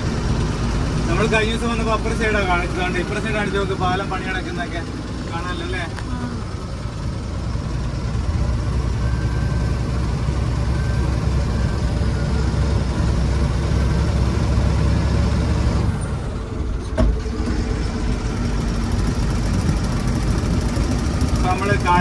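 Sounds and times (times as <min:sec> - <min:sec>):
lorry diesel engine rumble: 0:00.0 - 0:22.0
road noise: 0:00.0 - 0:22.0.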